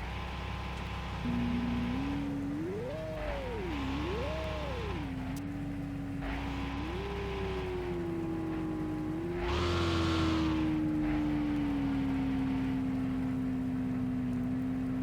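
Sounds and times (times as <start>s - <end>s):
car engine running and revving: 0.0s - 15.0s.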